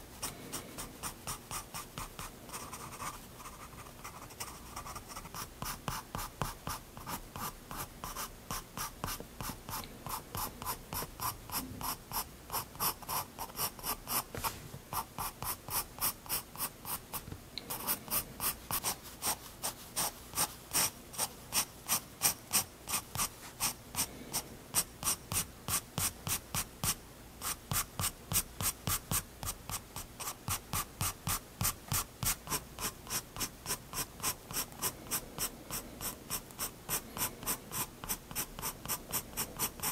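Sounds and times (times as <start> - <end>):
pencil scratching on paper: 0.8 - 17.0, 17.7 - 39.9.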